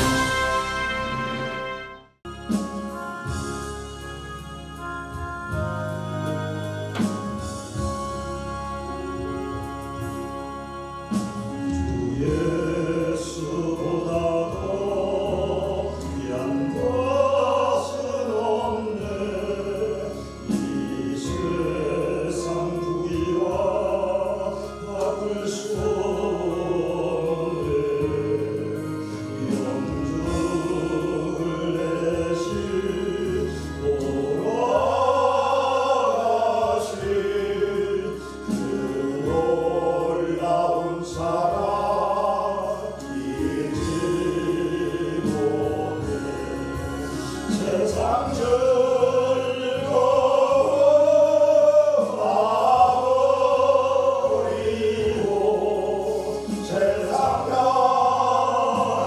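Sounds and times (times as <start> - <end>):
voices singing a slow hymn: 0.0 - 1.5, 2.4 - 59.0
instrumental backing: 0.0 - 59.0.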